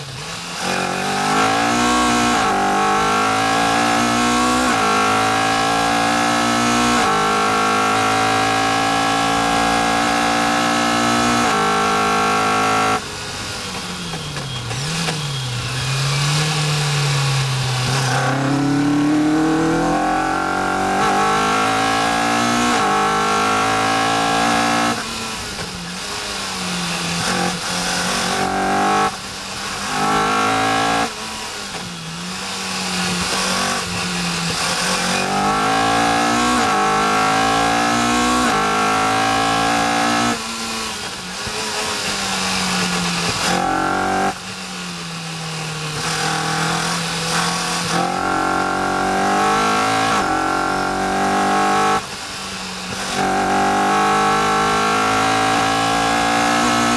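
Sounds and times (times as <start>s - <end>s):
car engine revving with gear changes: 0.0s - 56.9s.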